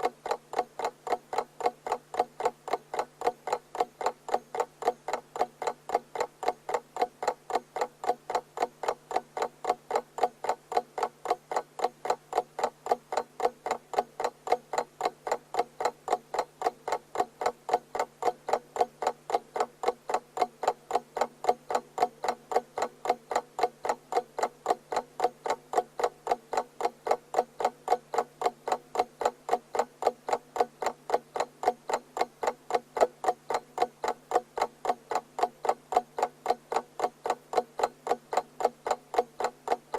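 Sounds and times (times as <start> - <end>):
alarm clock ticking: 0.0 - 39.9.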